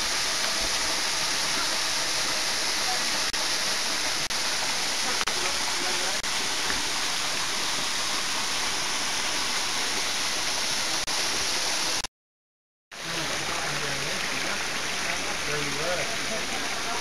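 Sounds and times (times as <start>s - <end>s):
creek water running over rocks: 0.0s - 12.1s, 12.9s - 17.0s.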